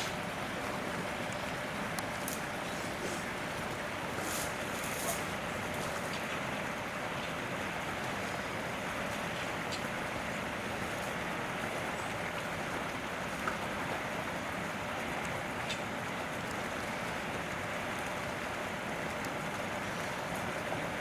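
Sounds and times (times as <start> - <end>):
steady rushing outdoor noise: 0.0 - 21.0.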